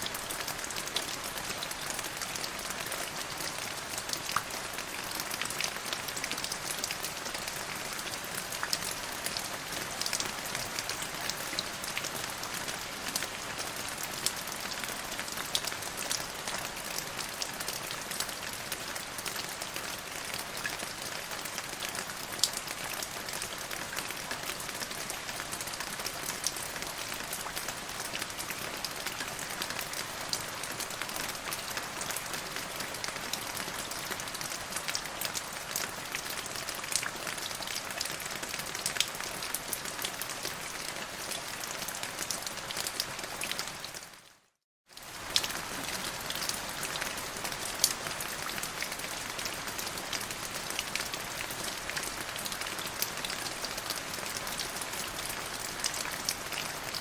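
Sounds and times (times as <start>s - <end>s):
drips of rain on surface: 0.0s - 57.0s
steady rain: 0.0s - 57.0s.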